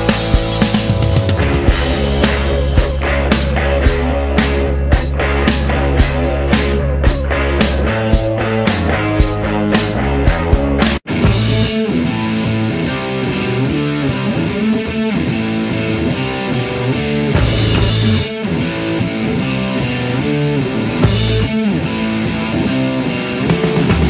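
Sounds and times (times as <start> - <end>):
rock music with electric guitar: 0.0 - 24.0.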